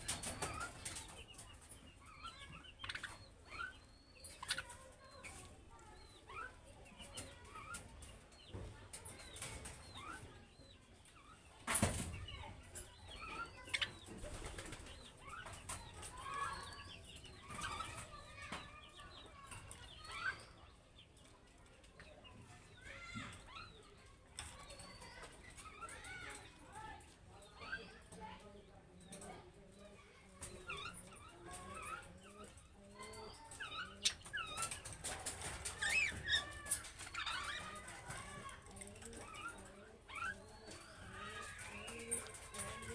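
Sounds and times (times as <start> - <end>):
budgerigars chirping and chattering: 0.0 - 21.4, 22.0 - 42.9.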